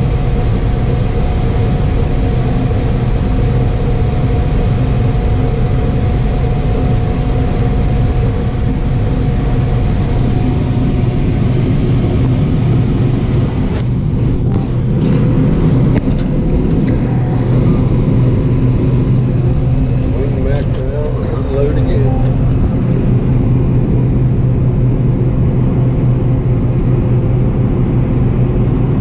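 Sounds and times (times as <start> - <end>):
combine harvester droning: 0.0 - 29.0.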